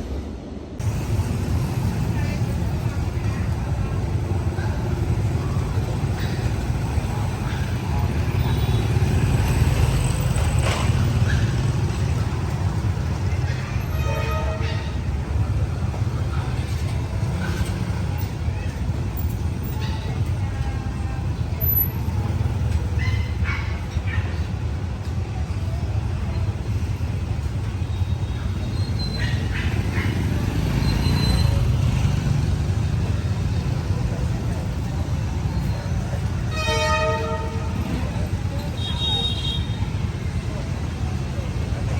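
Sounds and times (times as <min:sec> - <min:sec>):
train rumbling: 0:00.0 - 0:38.8.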